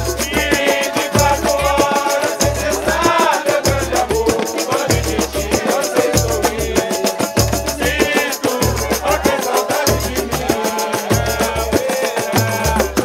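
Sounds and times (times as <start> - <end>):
tambourine jingle: 0.0 - 13.0
voices singing: 0.0 - 13.0.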